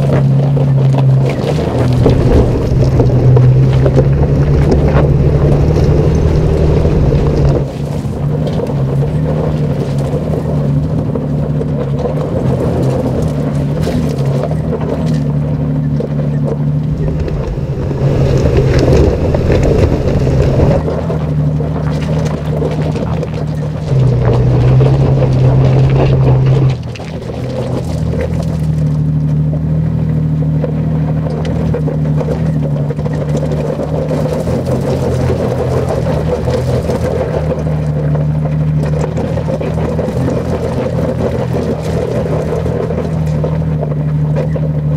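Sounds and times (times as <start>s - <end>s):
car engine under load: 0.0s - 44.9s.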